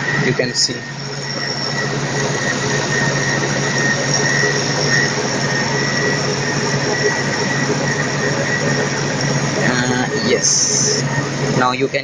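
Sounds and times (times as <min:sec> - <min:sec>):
fan motor humming: 0:00.0 - 0:12.0.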